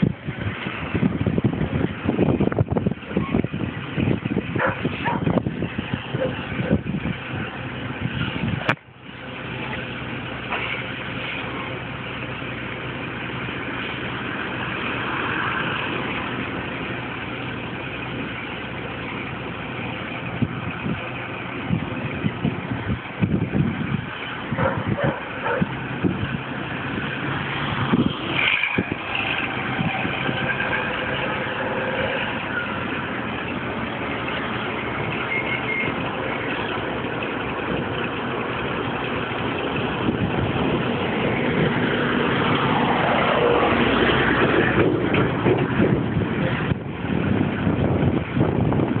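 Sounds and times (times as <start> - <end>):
truck diesel engine running: 0.0 - 49.0.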